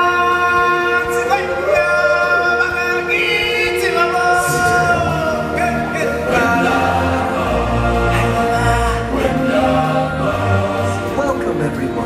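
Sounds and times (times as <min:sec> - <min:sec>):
choir holding sustained notes: 0:00.0 - 0:12.0
music: 0:00.0 - 0:12.0.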